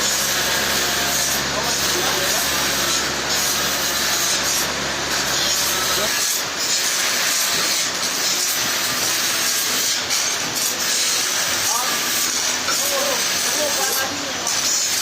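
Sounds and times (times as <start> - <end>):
saw cutting through log: 0.0 - 15.0.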